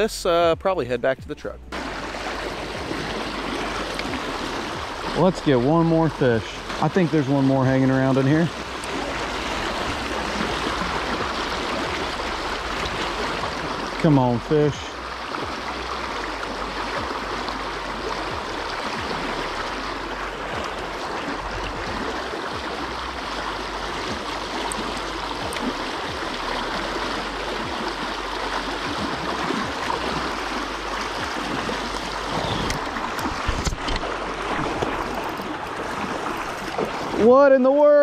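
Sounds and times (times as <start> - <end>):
river water rushing: 1.7 - 38.0.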